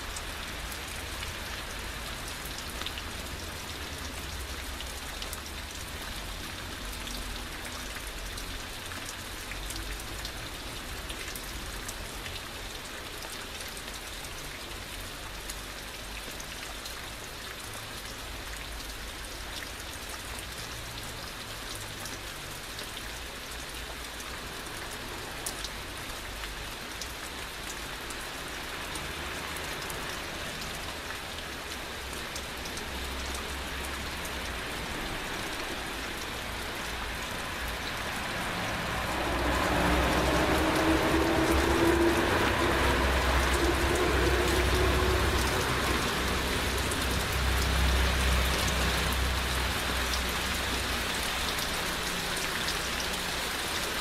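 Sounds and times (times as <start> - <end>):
raindrop ticks: 0.0 - 53.8
heavy rain falling: 0.0 - 54.0.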